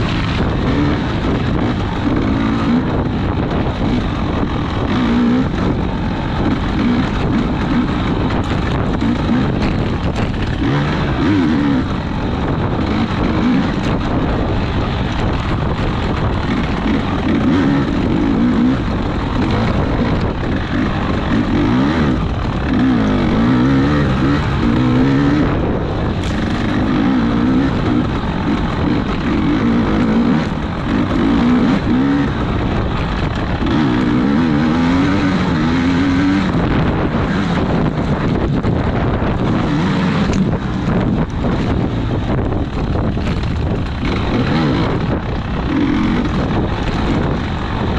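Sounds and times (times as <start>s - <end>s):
engine revving hard: 0.0s - 14.5s, 15.6s - 42.2s, 43.8s - 47.9s
rushing wind: 0.0s - 47.9s.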